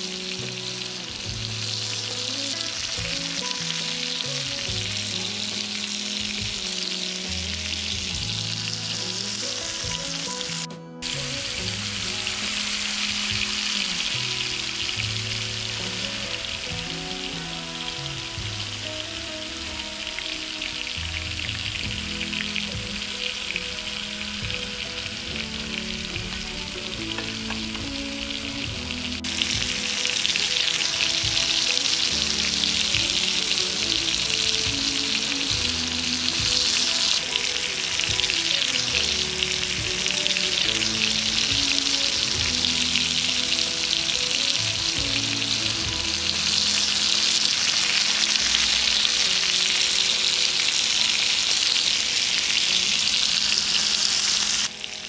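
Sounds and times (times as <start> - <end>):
fish frying in oil: 0.0 - 55.0.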